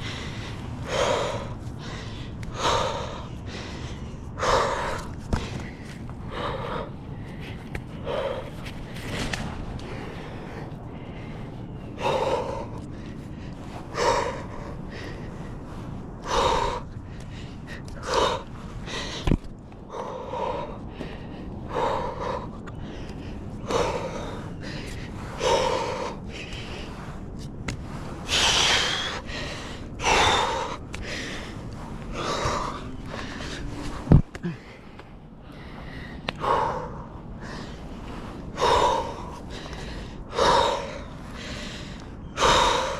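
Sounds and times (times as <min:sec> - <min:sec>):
man breathing heavily: 0:00.0 - 0:42.9.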